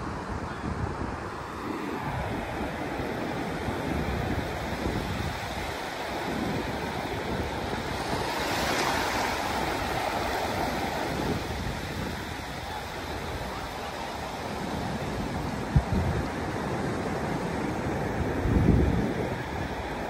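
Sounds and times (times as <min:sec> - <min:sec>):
waves breaking on beach: 0:00.0 - 0:20.0.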